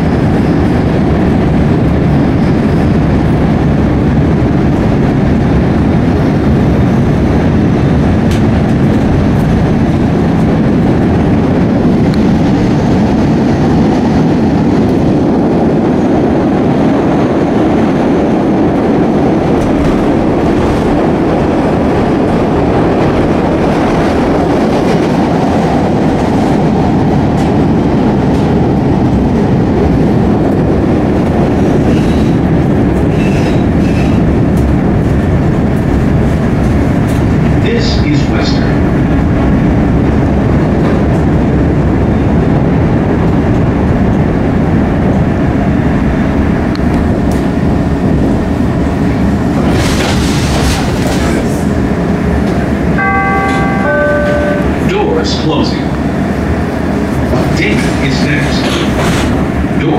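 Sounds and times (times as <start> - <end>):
train wheels on rail: 0.0 - 59.9.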